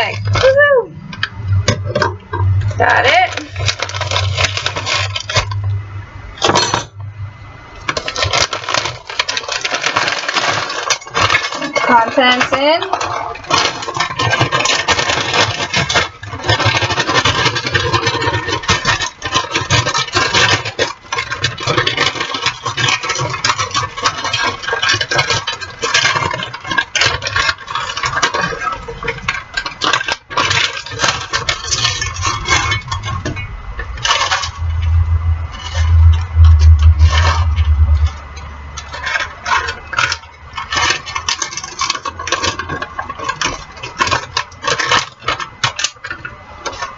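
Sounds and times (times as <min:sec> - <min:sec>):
frozen food rattling in a skillet: 0:00.0 - 0:00.9, 0:01.6 - 0:05.7, 0:07.8 - 0:46.9.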